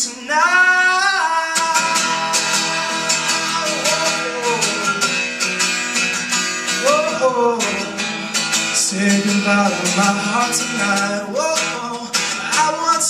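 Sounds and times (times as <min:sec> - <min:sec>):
man singing: 0:00.0 - 0:05.2, 0:06.7 - 0:13.0
acoustic guitar strumming: 0:00.0 - 0:13.0.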